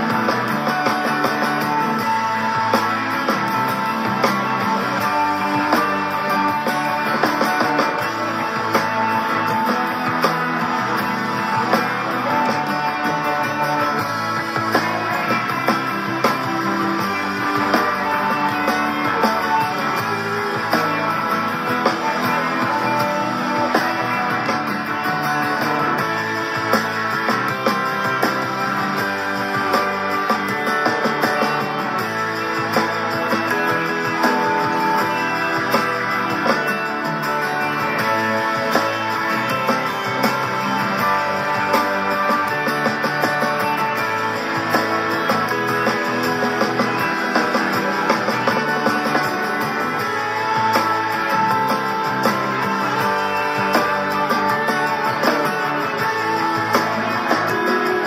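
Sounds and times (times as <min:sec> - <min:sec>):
guitar playing: 0:00.0 - 0:58.0.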